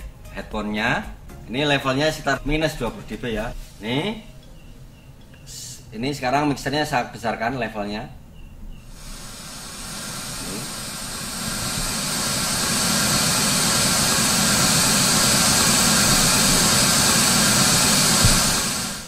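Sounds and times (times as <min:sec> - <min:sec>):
white noise hiss: 0:01.1 - 0:19.0.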